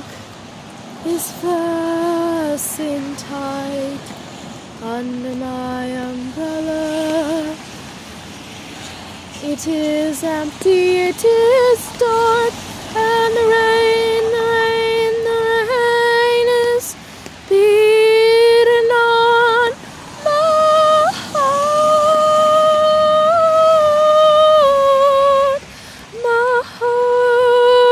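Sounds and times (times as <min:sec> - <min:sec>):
woman singing wordless melody: 0:00.9 - 0:04.2, 0:04.8 - 0:07.9, 0:09.3 - 0:27.9.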